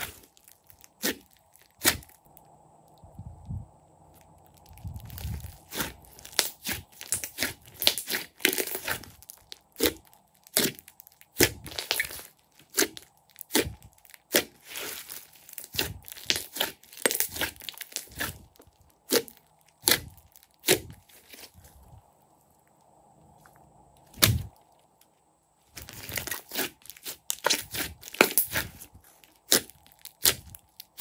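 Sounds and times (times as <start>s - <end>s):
slime squelching and popping: 0.0s - 2.3s, 4.1s - 21.7s, 25.8s - 31.0s.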